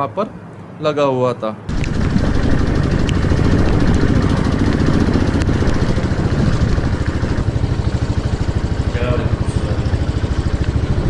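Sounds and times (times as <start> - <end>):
vehicle engine running: 1.7 - 11.0.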